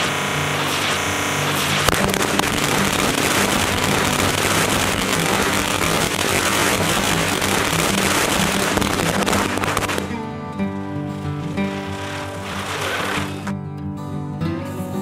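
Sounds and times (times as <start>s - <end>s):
firecrackers exploding: 0.0s - 13.5s.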